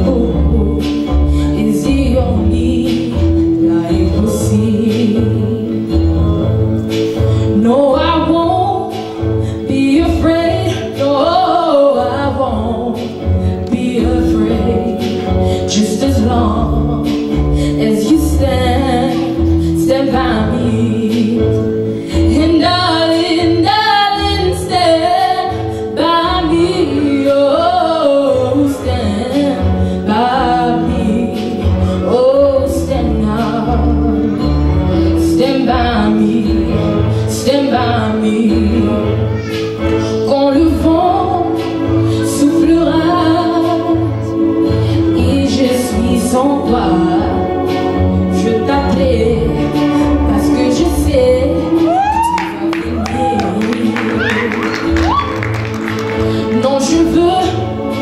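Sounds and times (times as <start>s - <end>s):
woman singing into microphone: 0.0s - 58.0s.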